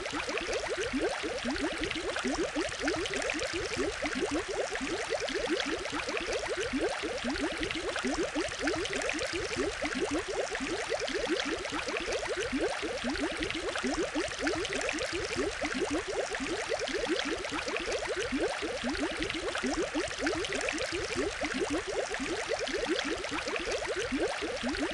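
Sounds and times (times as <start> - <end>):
aquarium water bubbling: 0.0 - 24.9.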